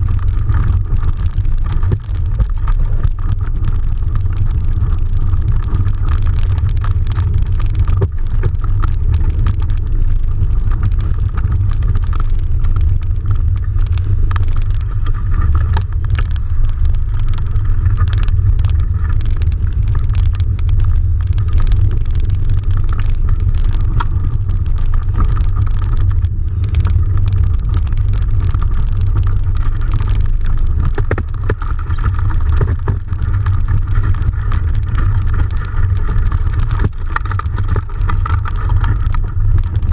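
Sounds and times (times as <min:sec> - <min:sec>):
faint clicks: 0:00.0 - 0:39.9.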